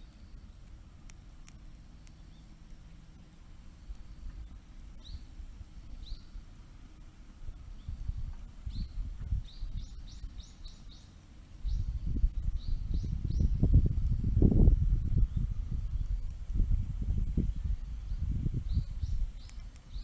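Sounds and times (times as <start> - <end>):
low rumbling noise: 0.0 - 20.0
small birds chirping: 0.0 - 20.0.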